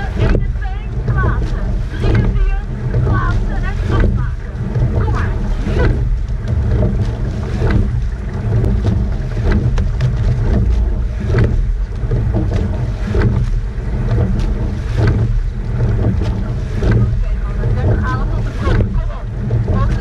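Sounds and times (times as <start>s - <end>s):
blades catching water: 0.0s - 20.0s
oars clunking in oarlocks: 0.0s - 20.0s
water rushing along hull: 0.0s - 20.0s
wind rumble on microphone: 0.0s - 20.0s.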